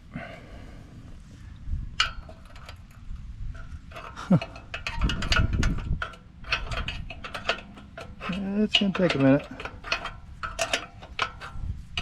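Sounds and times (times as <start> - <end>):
wrench metallic clicks and taps: 2.0 - 12.0.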